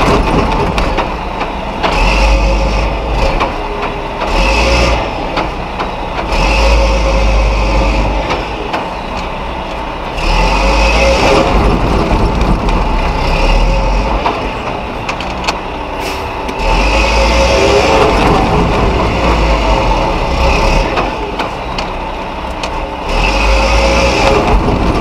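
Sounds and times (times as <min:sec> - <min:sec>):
truck diesel engine revving: 0:00.0 - 0:25.0.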